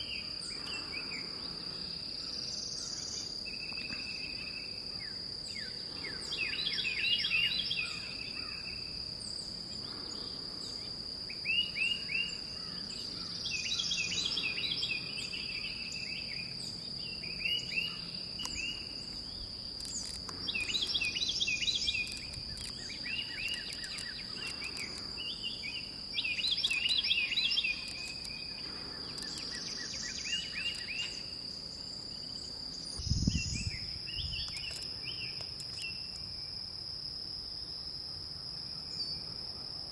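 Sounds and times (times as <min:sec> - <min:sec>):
insects droning: 0:00.0 - 0:39.9
songbird singing: 0:00.0 - 0:39.9.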